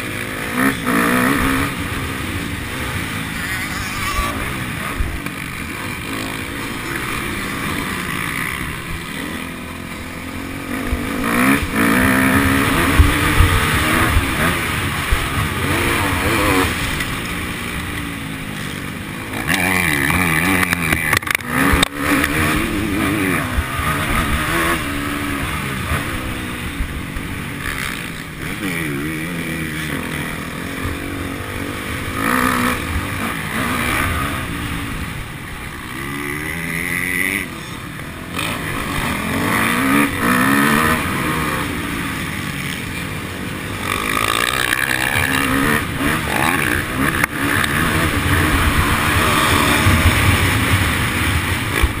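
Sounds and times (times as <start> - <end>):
motocross bike engine revving: 0.0 - 52.0.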